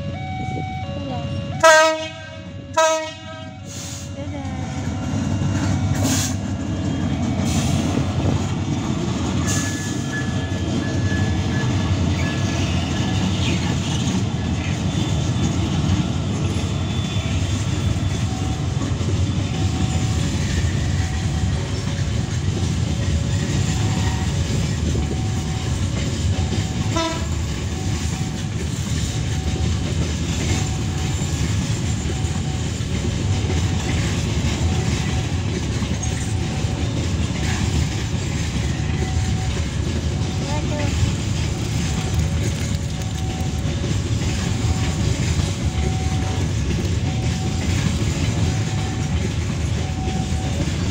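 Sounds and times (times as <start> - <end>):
diesel locomotive rumble: 0.0 - 50.9
train wagons rolling on rails: 1.1 - 50.9.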